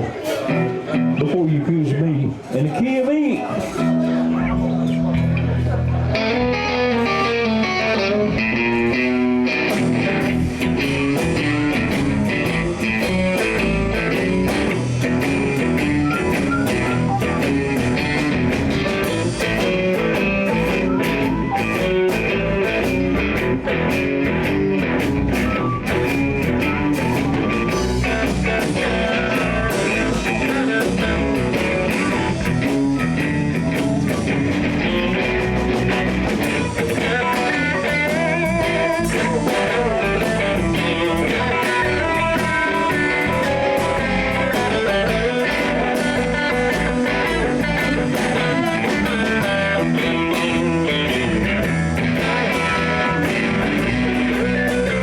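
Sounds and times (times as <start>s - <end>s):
electric guitar: 0.0s - 2.6s, 3.4s - 55.0s
drums and bass: 0.0s - 55.0s.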